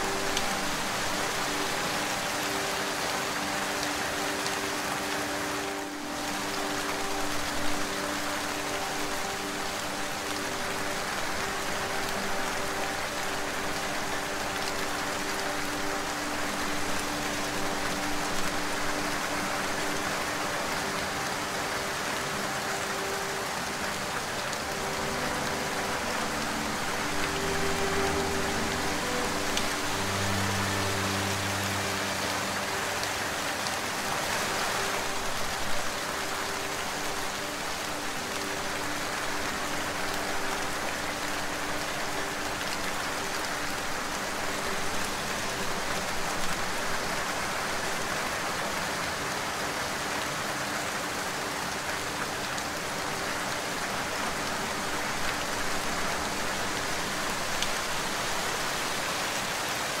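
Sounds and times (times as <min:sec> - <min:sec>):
rain on hard surfaces: 0:00.0 - 1:00.0.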